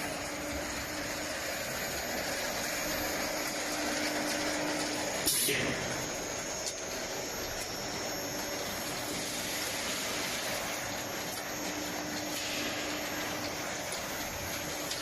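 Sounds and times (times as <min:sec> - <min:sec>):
production line machinery whirring: 0:00.0 - 0:15.0.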